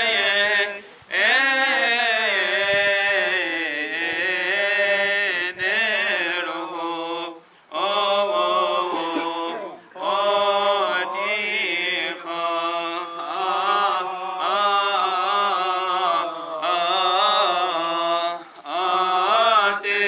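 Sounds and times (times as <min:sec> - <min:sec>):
voices singing liturgical chant: 0:00.0 - 0:20.0.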